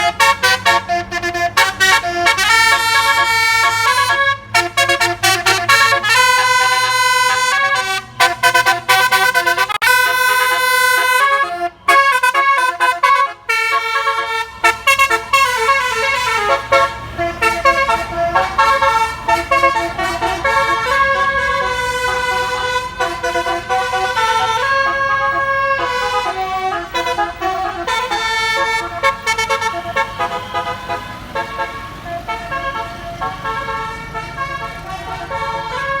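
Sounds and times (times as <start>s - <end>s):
low engine rumble: 0.0s - 36.0s
multi-tone bus horn melody: 0.0s - 36.0s.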